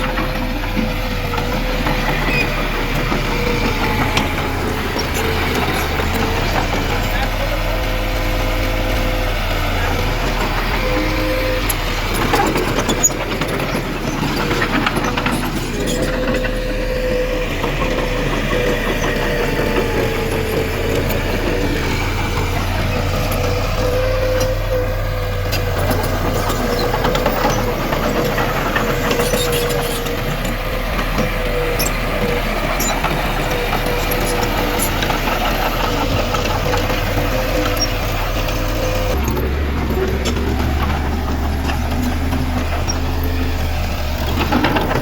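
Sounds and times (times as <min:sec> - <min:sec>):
clanks and clicks: 0:00.0 - 0:45.0
heavy machinery diesel engine: 0:00.0 - 0:45.0.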